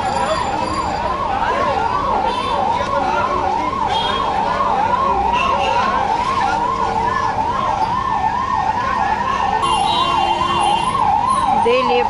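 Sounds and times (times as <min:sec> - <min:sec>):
police siren wailing: 0:00.0 - 0:12.0
street noise: 0:00.0 - 0:12.0.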